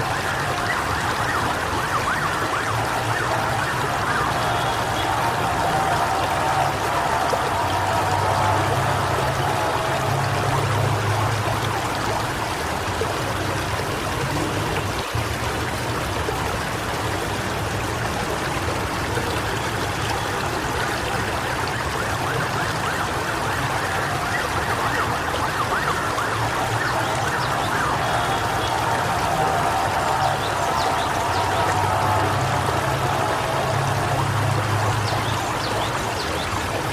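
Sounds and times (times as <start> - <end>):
rushing storm noise: 0.0 - 18.9, 20.4 - 36.9.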